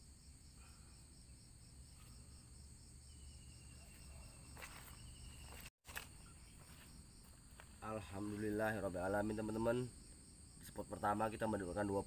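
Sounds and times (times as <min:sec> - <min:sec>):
insects buzzing and trilling: 0:00.0 - 0:12.0.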